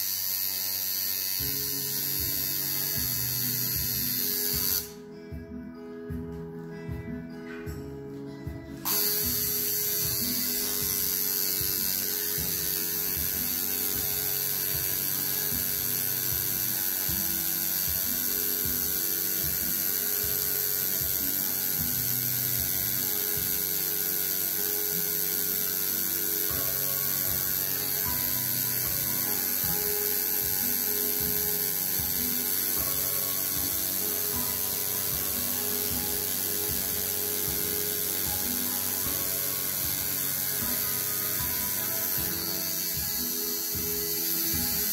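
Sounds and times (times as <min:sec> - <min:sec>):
tattoo machine buzzing: 0:00.0 - 0:05.0, 0:08.8 - 0:44.9.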